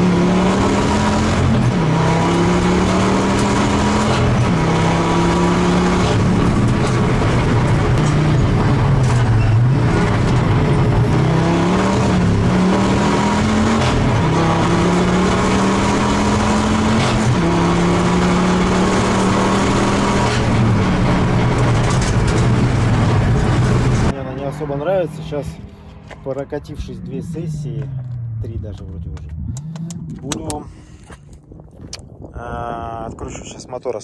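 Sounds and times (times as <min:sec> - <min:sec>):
race car engine accelerating: 0:00.0 - 0:30.8
road and wind noise: 0:00.0 - 0:34.0.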